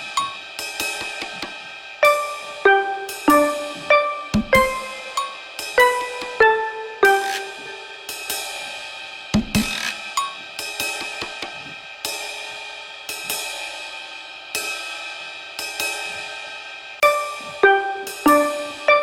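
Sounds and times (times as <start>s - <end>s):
drum kit with crashing cymbals: 0.0s - 19.0s.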